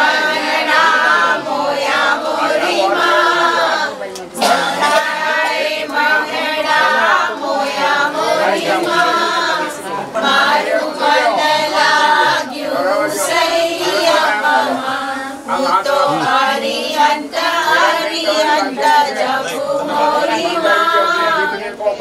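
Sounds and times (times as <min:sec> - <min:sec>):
group of voices singing: 0:00.0 - 0:22.0.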